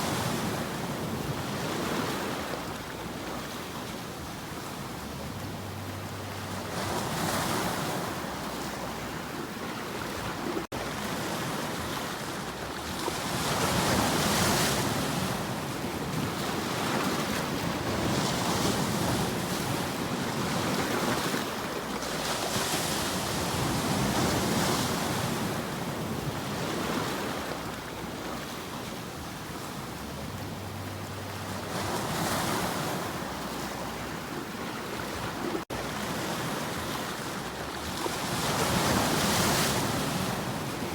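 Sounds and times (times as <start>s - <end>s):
ocean waves surging: 0.0s - 40.9s.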